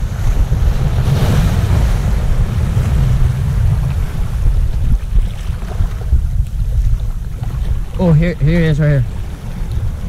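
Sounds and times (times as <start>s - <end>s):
surf washing: 0.0s - 10.0s
wind buffeting microphone: 0.0s - 10.0s.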